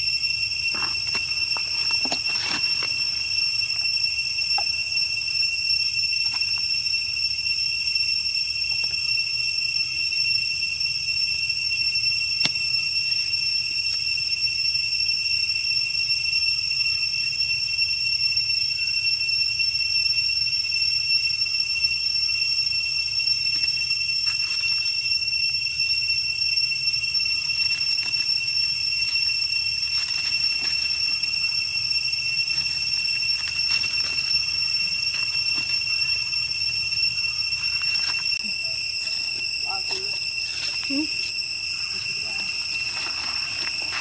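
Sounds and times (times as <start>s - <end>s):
high-pitched whistling tone: 0.0s - 44.0s.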